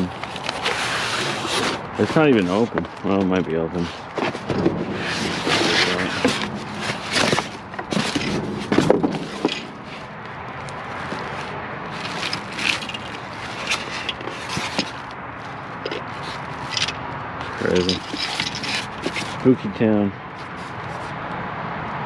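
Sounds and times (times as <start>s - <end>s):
cardboard box being opened: 0.0s - 15.1s, 15.8s - 19.5s
packaging rustling: 0.0s - 19.5s
outdoor background noise: 0.0s - 22.0s.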